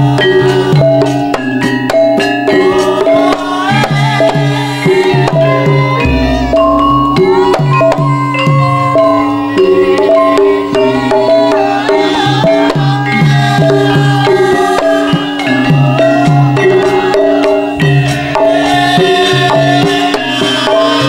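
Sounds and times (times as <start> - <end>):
hand drum beating: 0.0 - 21.0
tuned metal percussion melody: 0.0 - 21.0.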